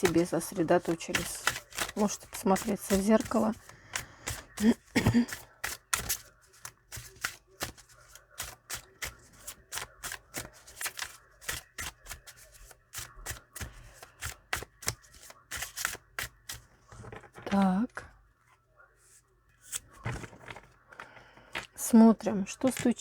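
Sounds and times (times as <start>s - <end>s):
cards being shuffled: 0.0s - 17.9s, 19.6s - 21.8s, 22.4s - 23.0s.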